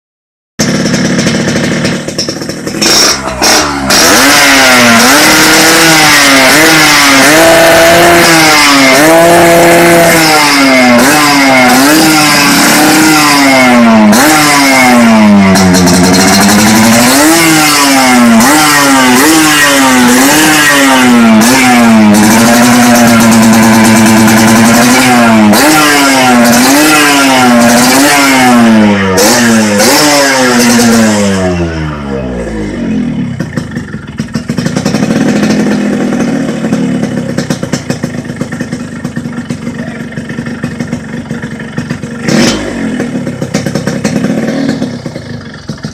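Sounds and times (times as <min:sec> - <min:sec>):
two-stroke motorcycle engine revving: 0:00.6 - 0:45.9.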